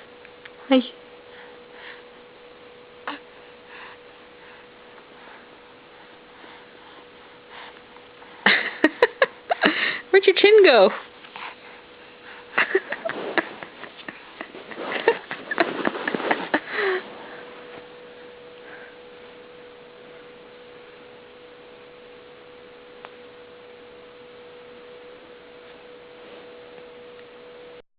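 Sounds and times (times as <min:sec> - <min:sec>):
faint steady hum: 0:00.0 - 0:27.8.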